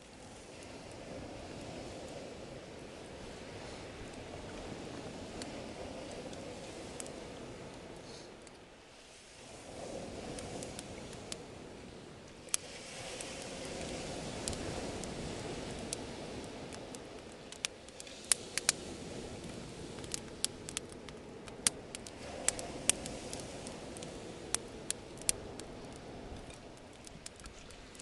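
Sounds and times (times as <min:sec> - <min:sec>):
bonfire crackling: 0:00.0 - 0:28.0.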